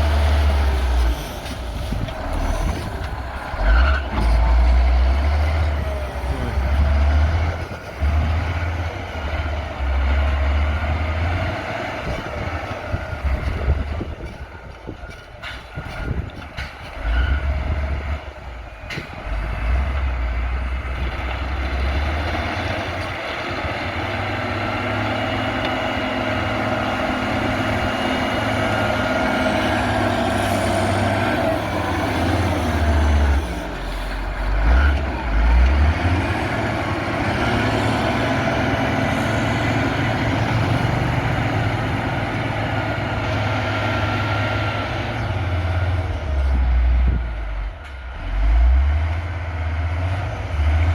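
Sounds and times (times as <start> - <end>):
diesel engine rumbling under load: 0.0 - 50.9.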